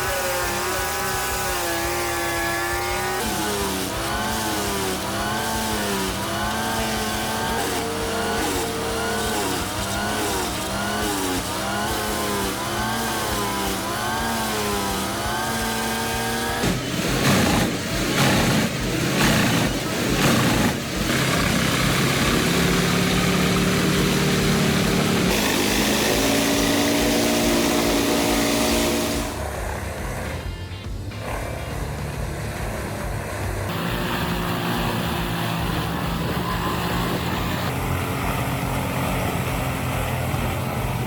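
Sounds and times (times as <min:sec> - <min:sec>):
wood crunching in chipper: 0:00.0 - 0:30.4, 0:31.2 - 0:41.0
wood chipper engine running: 0:00.0 - 0:41.0.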